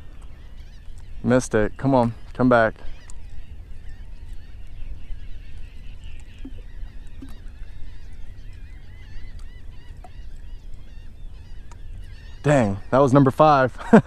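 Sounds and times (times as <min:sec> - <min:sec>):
flock of birds calling: 0:00.0 - 0:14.0
wind rumble on microphone: 0:00.0 - 0:14.0.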